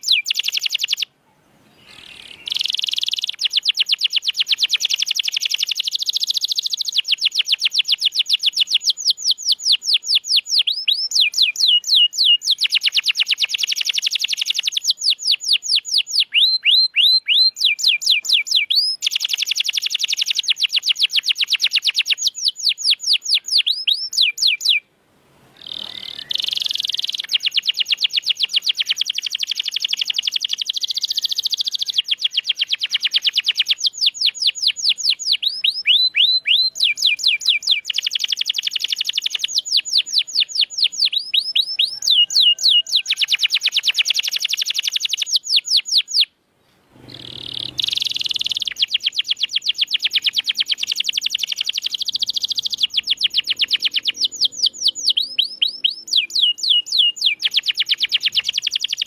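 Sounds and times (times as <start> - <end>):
canary singing trills: 0.0 - 24.9, 25.6 - 46.3, 47.0 - 59.0.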